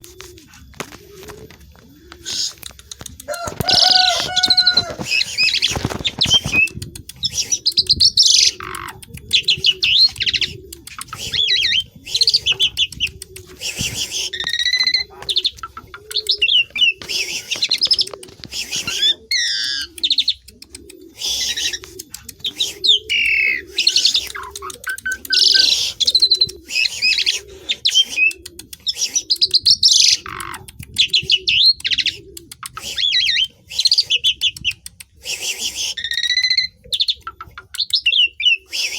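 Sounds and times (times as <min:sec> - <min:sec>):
starling singing: 0:02.2 - 0:38.9.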